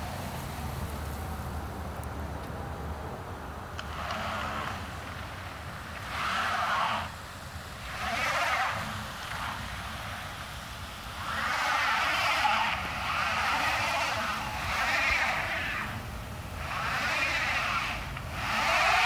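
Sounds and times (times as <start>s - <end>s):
cars passing on icy road: 0.0s - 19.0s.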